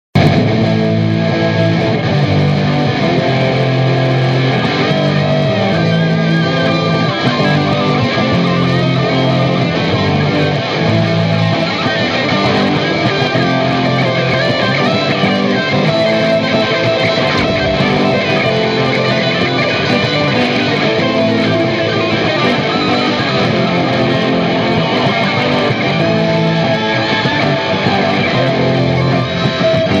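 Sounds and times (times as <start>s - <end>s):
fast guitar run: 0.2s - 30.0s.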